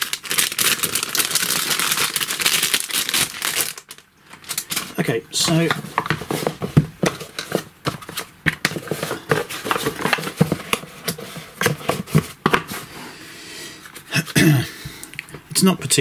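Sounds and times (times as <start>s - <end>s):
cardboard rustling: 0.0s - 13.0s.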